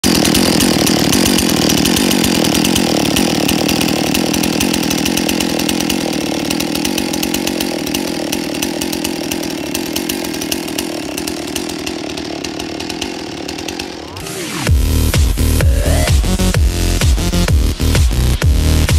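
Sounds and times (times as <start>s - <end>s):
chainsaw engine running: 0.0s - 18.9s.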